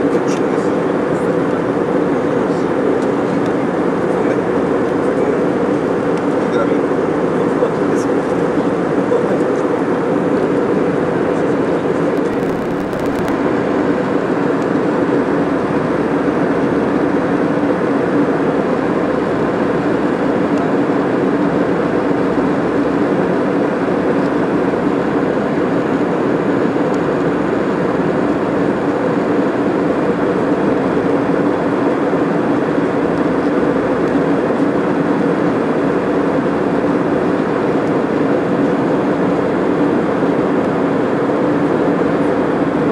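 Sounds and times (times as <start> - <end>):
airliner cabin engine drone: 0.0 - 42.9.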